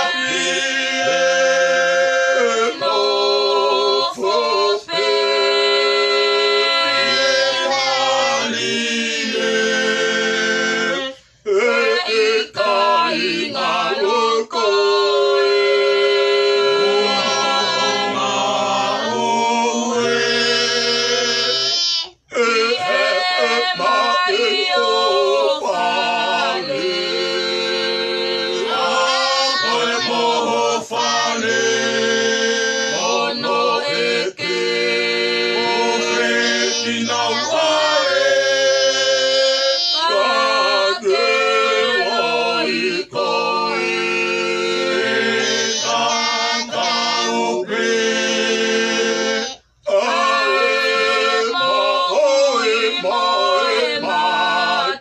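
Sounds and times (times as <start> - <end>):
group singing unaccompanied: 0.0 - 55.0.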